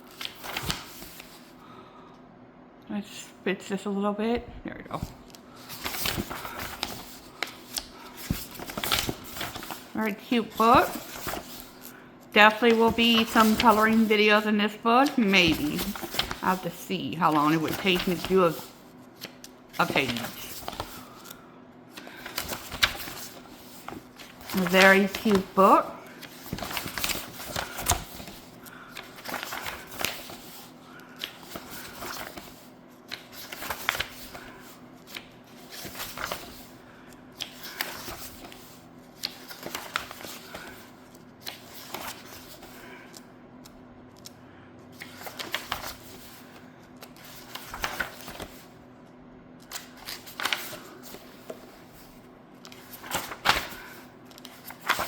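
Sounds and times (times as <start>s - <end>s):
paper pages turning: 0.1s - 1.5s, 5.0s - 43.2s, 45.0s - 48.8s, 49.6s - 55.0s.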